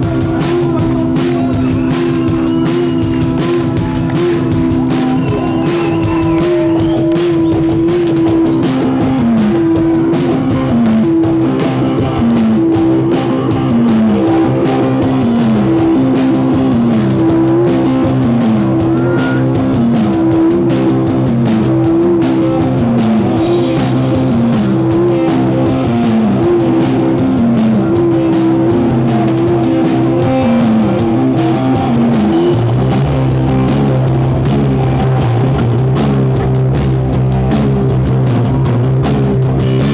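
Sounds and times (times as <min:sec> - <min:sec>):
electric guitar riff: 0:00.0 - 0:39.9
steady drums: 0:00.0 - 0:39.9.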